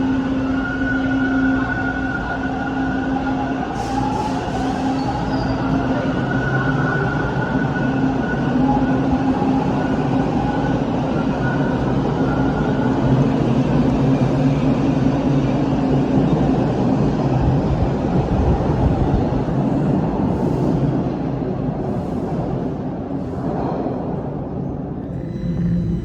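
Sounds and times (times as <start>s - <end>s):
subway train rumbling: 0.0s - 26.0s.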